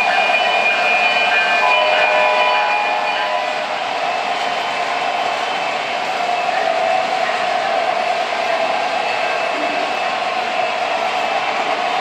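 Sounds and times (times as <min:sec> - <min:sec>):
model train running: 0:00.0 - 0:12.0.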